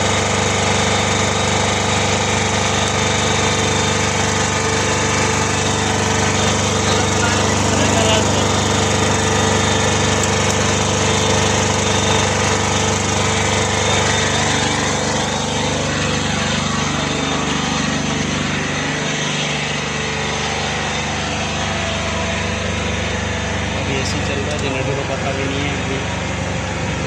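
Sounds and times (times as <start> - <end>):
diesel generator running: 0.0 - 27.0.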